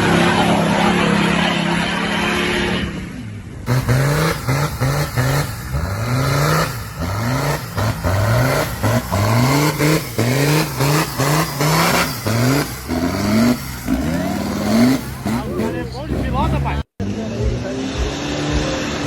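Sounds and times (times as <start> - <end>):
engine revving in bursts: 3.7 - 19.0.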